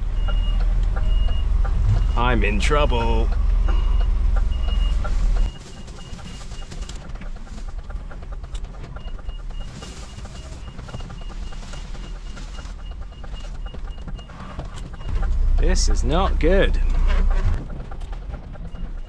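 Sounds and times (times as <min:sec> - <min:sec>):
lorry diesel engine idling: 0:00.0 - 0:19.0.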